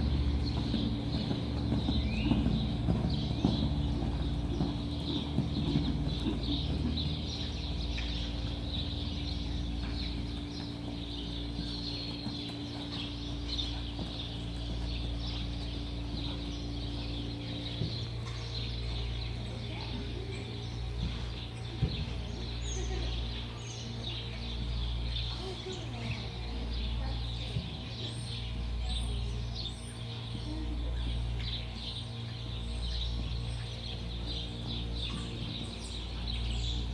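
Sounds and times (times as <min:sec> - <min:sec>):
birds chirping: 0:00.0 - 0:36.9
low hum: 0:00.0 - 0:36.9.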